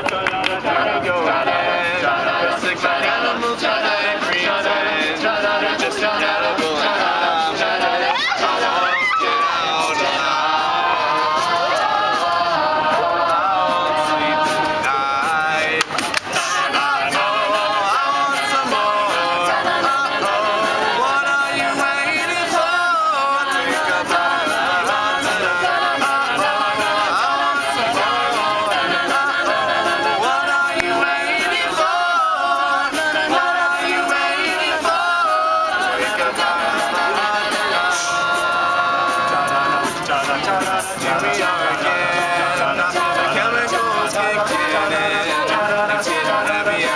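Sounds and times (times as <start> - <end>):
a cappella group singing: 0.0 - 46.9.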